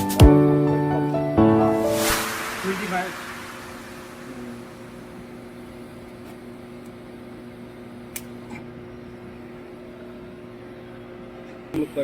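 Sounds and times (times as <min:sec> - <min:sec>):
electrical hum: 0:00.2 - 0:12.0.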